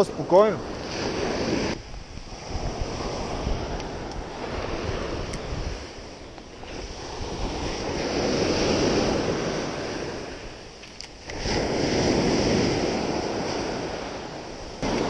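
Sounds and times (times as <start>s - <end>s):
waves breaking on beach: 0.0s - 15.0s
wind on microphone: 0.0s - 15.0s.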